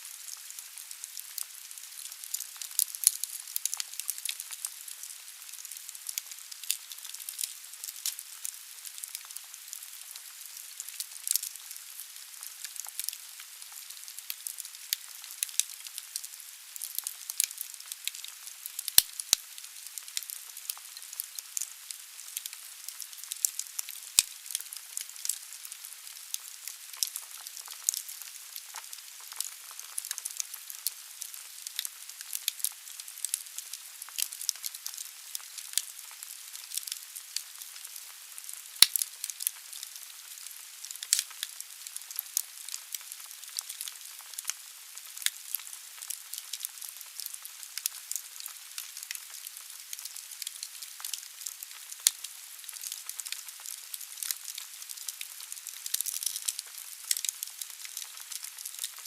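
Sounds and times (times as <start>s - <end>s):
logs crackling and popping: 0.2s - 59.0s.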